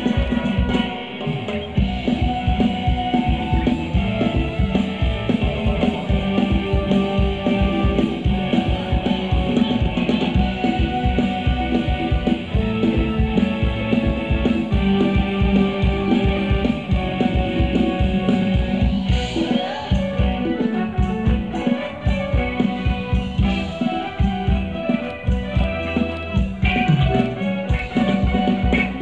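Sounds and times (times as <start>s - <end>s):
band playing dance music: 0.0s - 29.0s
driving drum beat: 0.0s - 29.0s.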